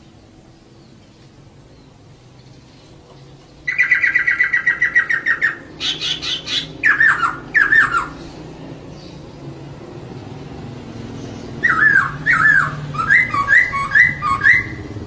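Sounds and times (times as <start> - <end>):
laughingthrush chirping calls: 0.7 - 9.4, 11.2 - 15.0.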